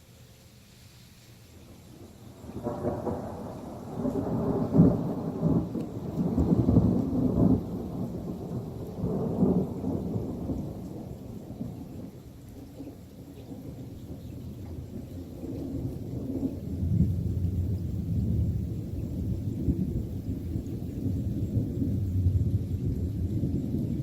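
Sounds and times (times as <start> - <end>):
thunder rolling: 2.0 - 24.0.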